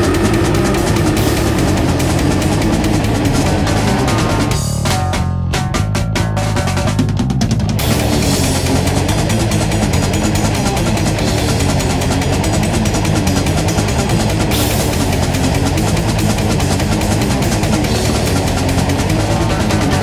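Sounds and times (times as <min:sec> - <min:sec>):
distorted guitar riff: 0:00.0 - 0:20.0
fast dense drumming: 0:00.0 - 0:20.0.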